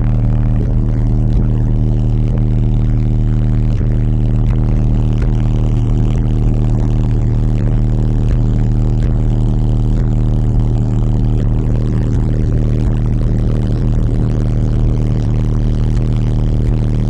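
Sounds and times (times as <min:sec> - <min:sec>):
subwoofer bass tone: 0:00.0 - 0:17.0.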